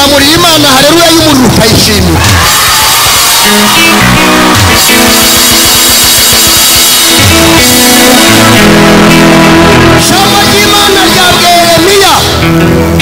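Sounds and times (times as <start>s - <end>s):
drums: 0.0s - 13.0s
guitar: 0.0s - 13.0s
loud band music: 0.0s - 13.0s.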